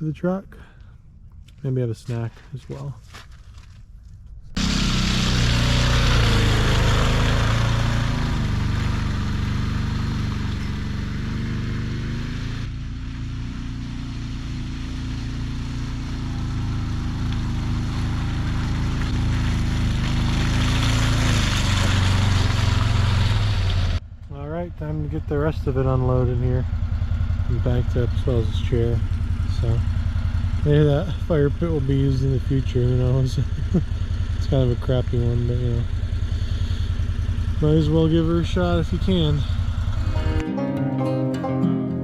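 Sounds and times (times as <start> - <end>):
utv engine running: 4.6 - 40.2.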